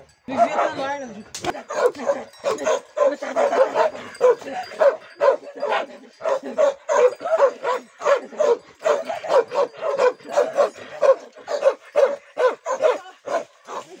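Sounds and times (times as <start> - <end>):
dog barking: 0.3 - 0.9, 1.5 - 14.0.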